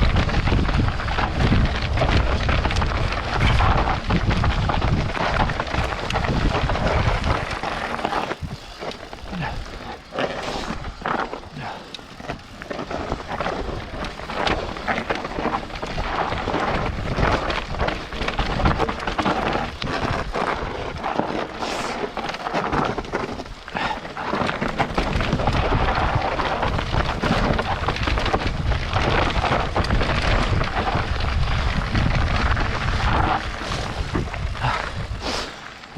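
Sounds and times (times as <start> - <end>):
wind buffeting microphone: 0.0 - 10.1, 10.7 - 22.2, 22.8 - 35.3
bike tyres rattling over gravel: 0.0 - 35.9.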